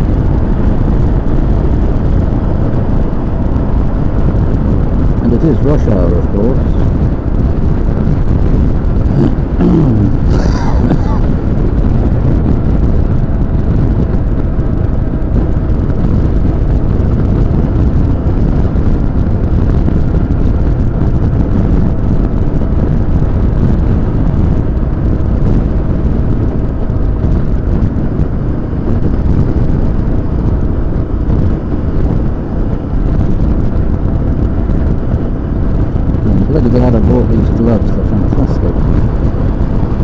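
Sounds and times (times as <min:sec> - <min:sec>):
motorcycle engine drone: 0:00.0 - 0:40.0
wind rush on microphone: 0:00.0 - 0:40.0.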